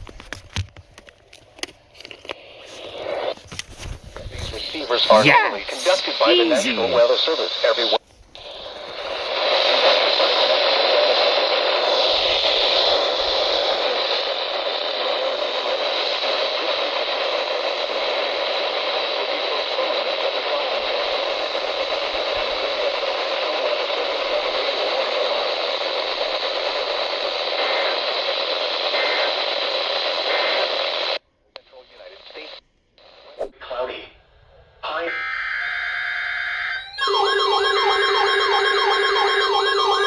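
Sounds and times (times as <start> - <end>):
radio static hiss: 2.0 - 34.2, 36.8 - 40.0.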